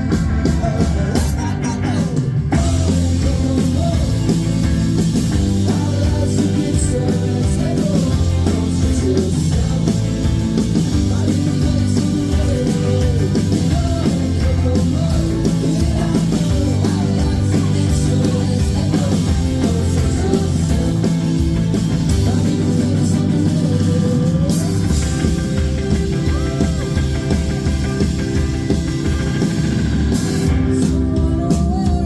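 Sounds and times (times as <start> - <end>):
electric guitars: 0.0 - 32.0
steady bass line: 0.0 - 32.0.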